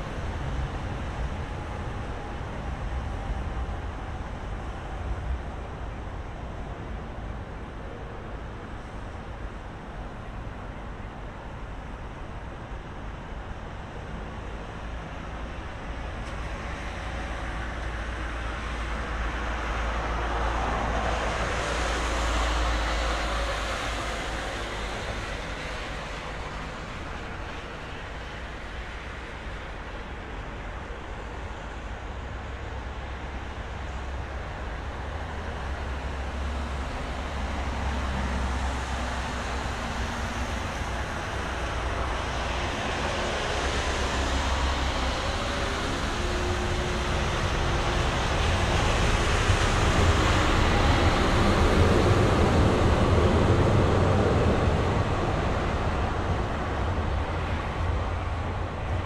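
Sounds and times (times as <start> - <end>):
street traffic rumble: 0.0 - 59.0.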